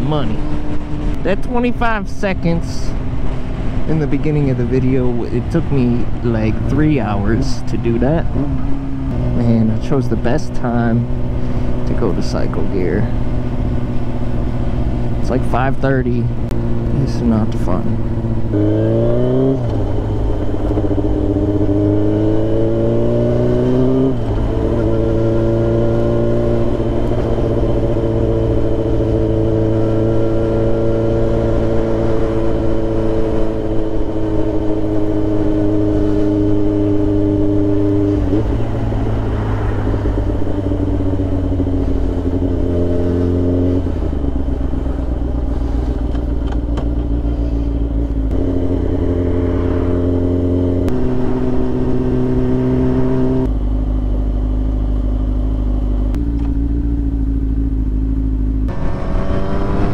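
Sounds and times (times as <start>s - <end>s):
sport motorcycle engine running: 5.3s - 59.9s.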